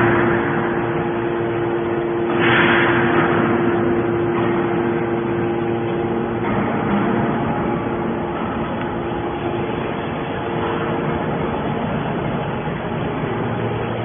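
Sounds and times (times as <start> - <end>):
hydraulic baler humming: 0.0 - 14.0.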